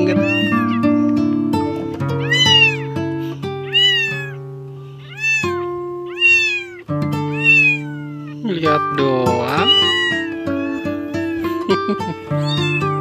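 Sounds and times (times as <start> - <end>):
kitten mewing: 0.0 - 1.1, 1.7 - 13.0
music with plucked notes: 0.0 - 13.0.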